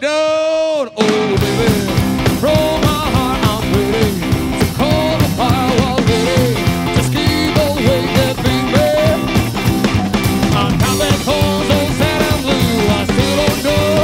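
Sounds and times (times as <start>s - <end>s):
electric guitar: 1.0s - 14.0s
steady drum beat: 1.0s - 14.0s
walking double bass: 1.4s - 14.0s.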